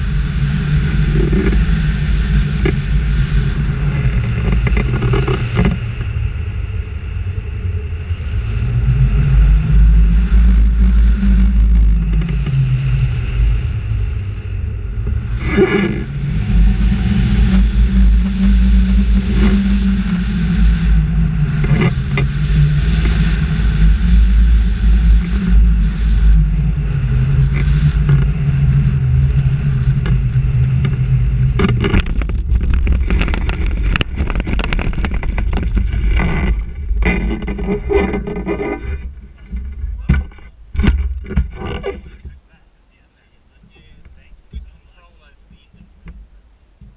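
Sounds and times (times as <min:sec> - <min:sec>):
wheels bumping and scraping on grass: 0:00.0 - 0:06.5, 0:09.1 - 0:14.2, 0:15.0 - 0:46.9
low drone: 0:00.0 - 0:46.8
wind rushing over microphone: 0:00.0 - 0:46.9.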